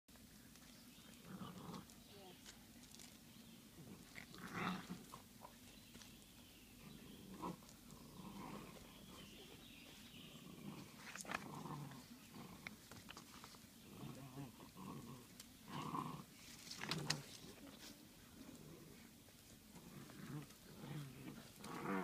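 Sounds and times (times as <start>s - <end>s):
wolf pups vocalizing: 0.5s - 22.0s.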